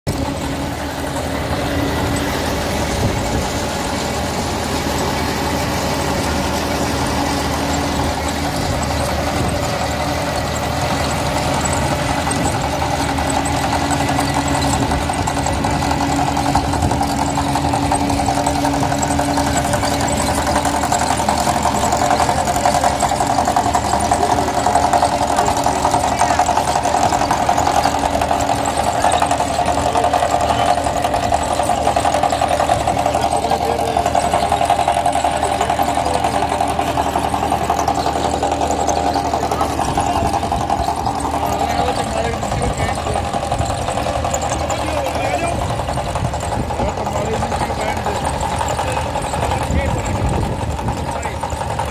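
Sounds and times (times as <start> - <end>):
tractor diesel engine running: 0.0 - 51.9
mechanical whine: 0.1 - 51.9.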